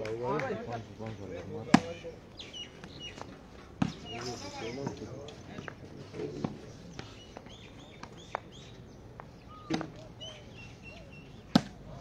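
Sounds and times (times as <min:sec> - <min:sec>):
birds chirping: 0:00.3 - 0:12.0.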